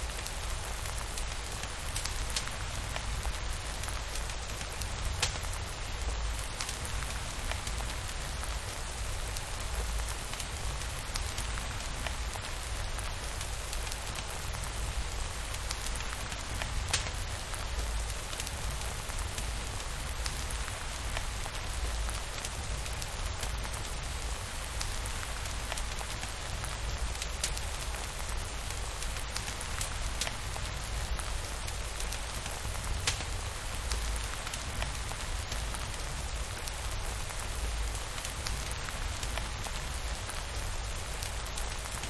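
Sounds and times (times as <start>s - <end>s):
steady rainfall: 0.0s - 42.0s.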